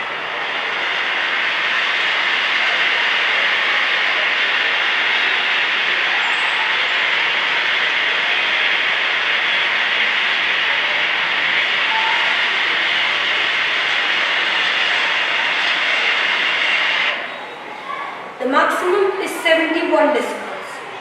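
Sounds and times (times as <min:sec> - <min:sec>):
steady rushing test noise: 0:00.0 - 0:17.4.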